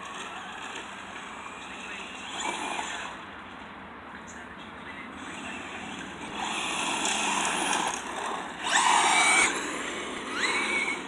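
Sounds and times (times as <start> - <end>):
rc car electric motor whining: 0.0 - 3.3, 5.2 - 11.0.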